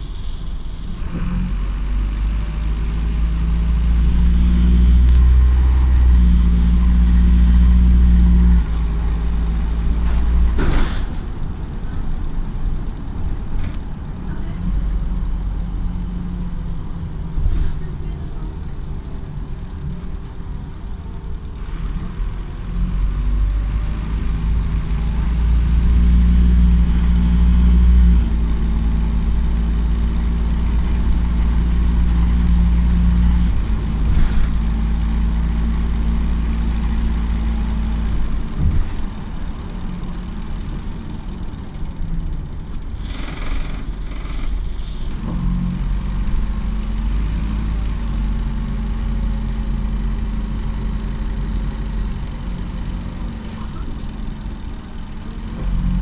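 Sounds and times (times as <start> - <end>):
bus engine accelerating: 0.0 - 56.0.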